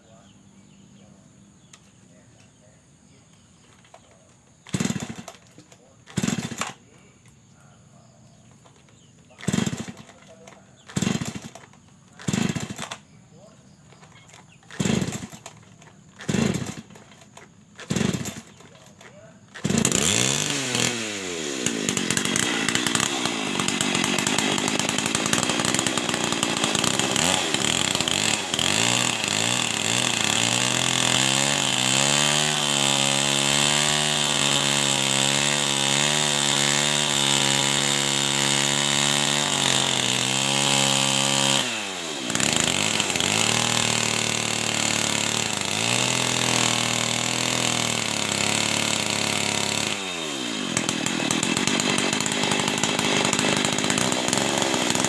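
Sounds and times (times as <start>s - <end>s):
chainsaw engine revving: 3.3s - 7.6s, 8.2s - 55.0s.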